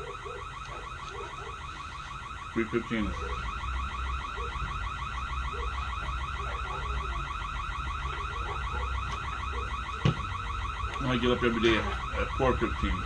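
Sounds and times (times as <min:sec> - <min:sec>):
pulsing electronic warble: 0:00.0 - 0:13.0.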